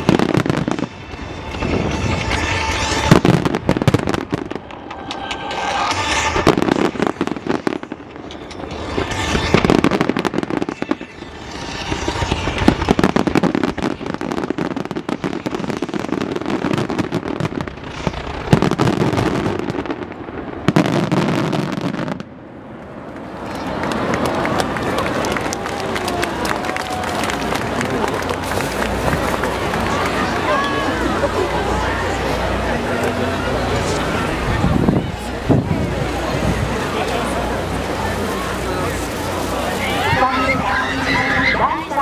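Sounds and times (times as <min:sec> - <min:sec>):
fireworks booming and crackling: 0:00.0 - 0:42.0.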